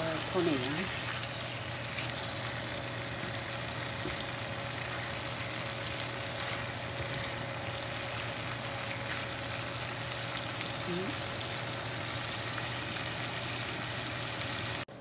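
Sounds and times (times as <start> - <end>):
chicken sizzling in oil: 0.0 - 14.9.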